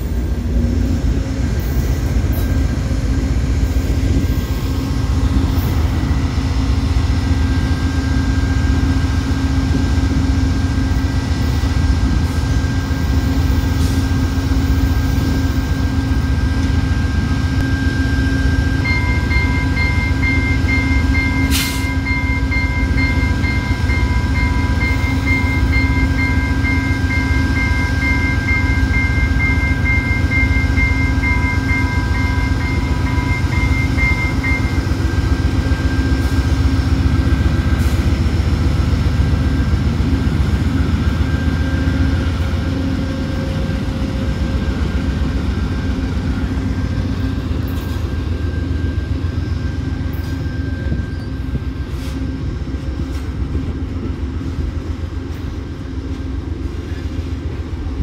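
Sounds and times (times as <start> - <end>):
diesel locomotive idling: 0.0 - 58.0.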